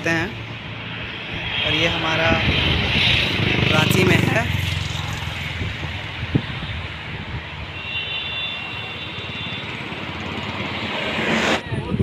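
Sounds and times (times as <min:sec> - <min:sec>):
vehicle and road noise: 0:00.0 - 0:12.0.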